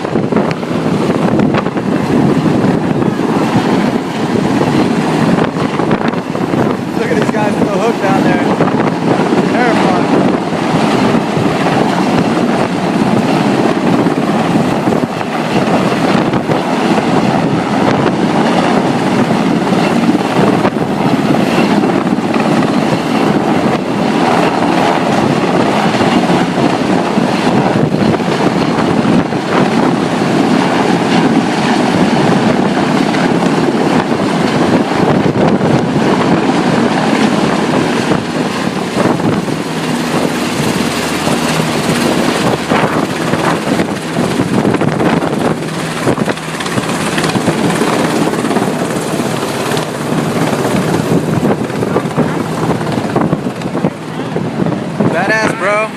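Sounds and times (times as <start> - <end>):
helicopter rotor and engine: 0.0 - 55.9
wind buffeting microphone: 0.0 - 55.9.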